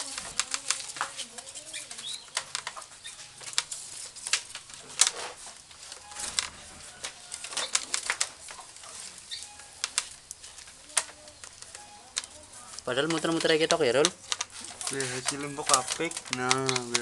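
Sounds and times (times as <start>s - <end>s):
crisp clicks and scrapes: 0.0s - 17.0s
rattan strip rustling and rasping: 0.0s - 17.0s.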